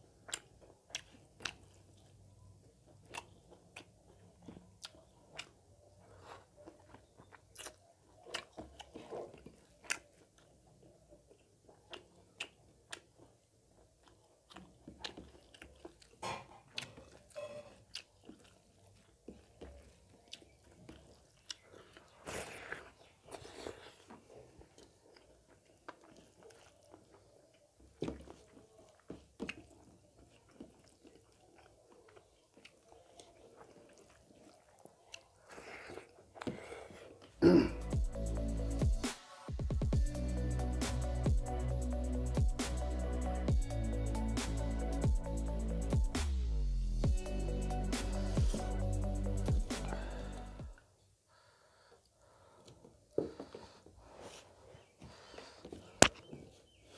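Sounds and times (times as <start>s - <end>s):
person chewing food: 0.0s - 39.1s, 40.0s - 56.9s.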